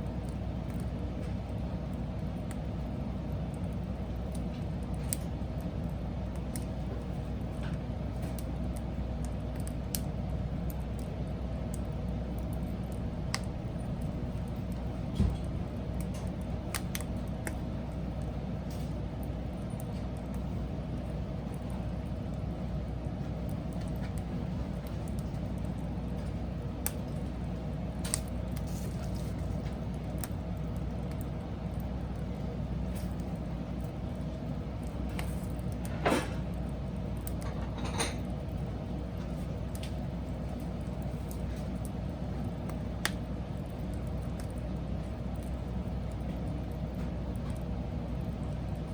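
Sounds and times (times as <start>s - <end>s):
burning wood crackling: 0.0s - 48.9s
wood fire rumbling: 0.0s - 48.9s.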